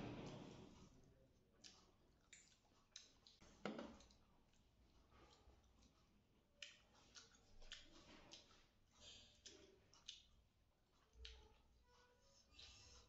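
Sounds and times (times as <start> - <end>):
chewing smacks and clicks: 1.6 - 13.0.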